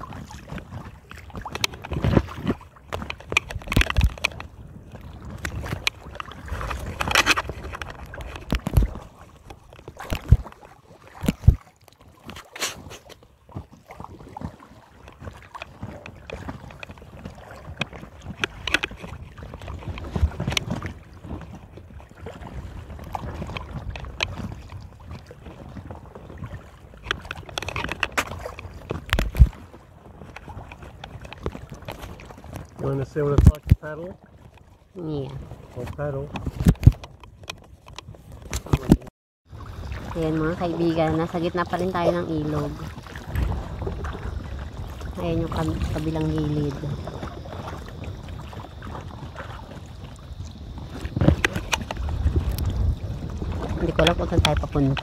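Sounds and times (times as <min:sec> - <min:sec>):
paddle strokes splashing: 0:00.0 - 0:55.0
water sloshing around kayak: 0:00.0 - 0:55.0
wind rumble on microphone: 0:00.0 - 0:55.0.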